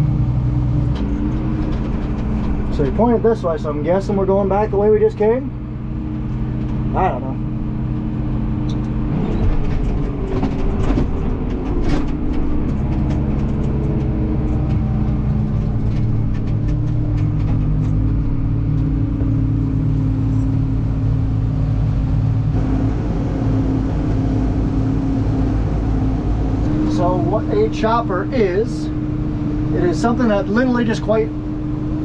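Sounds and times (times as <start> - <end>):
tractor engine drone: 0.0 - 32.0.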